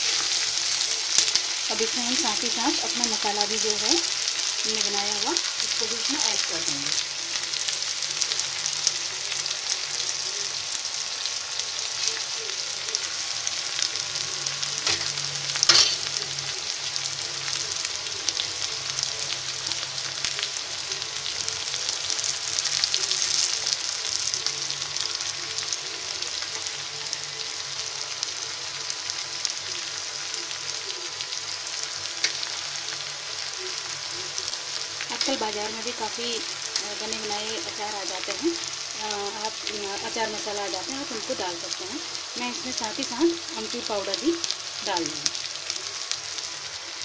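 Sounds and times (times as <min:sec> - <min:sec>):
garlic and chillies sizzling in oil: 0:00.0 - 0:47.0.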